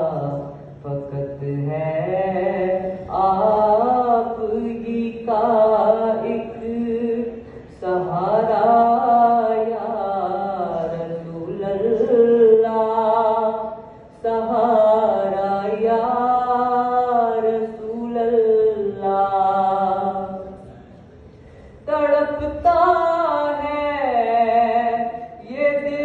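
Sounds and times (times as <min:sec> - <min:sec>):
boy singing into a microphone: 0:00.0 - 0:20.7, 0:21.8 - 0:26.0.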